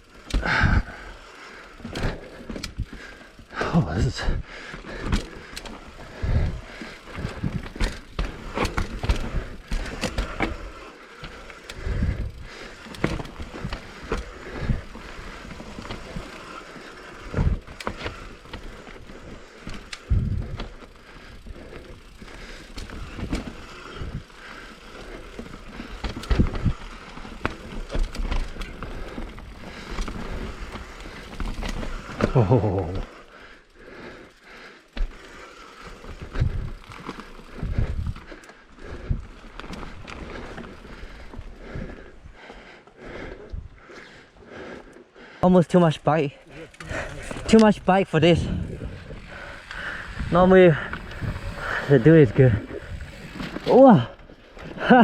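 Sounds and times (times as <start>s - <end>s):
bike clattering and rattling: 0.0s - 44.9s, 45.8s - 55.0s
tyres rolling over dirt: 4.8s - 42.2s, 46.4s - 55.0s.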